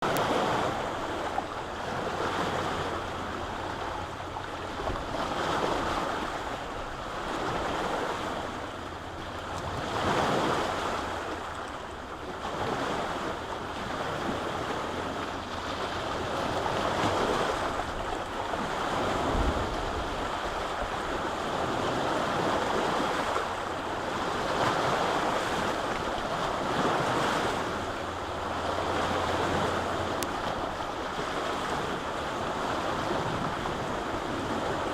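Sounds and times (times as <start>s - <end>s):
waves washing onto shore: 0.0s - 34.9s
wind rumble on microphone: 0.0s - 34.9s.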